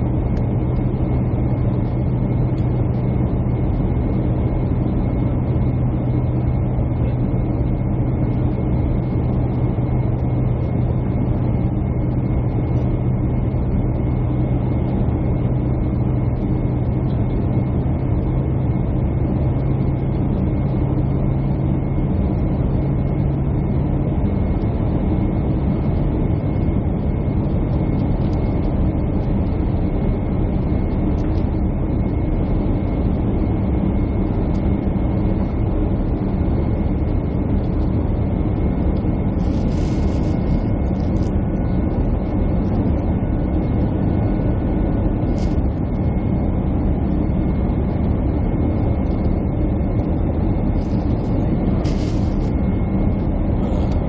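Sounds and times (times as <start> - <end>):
faint steady whine: 0.0 - 54.0
jet engine and airflow rumble: 0.0 - 54.0.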